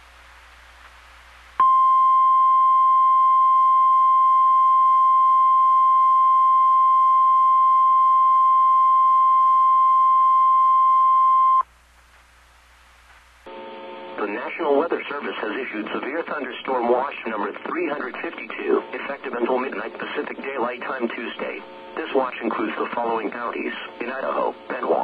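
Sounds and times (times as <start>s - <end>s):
faint radio hiss: 0.0s - 25.0s.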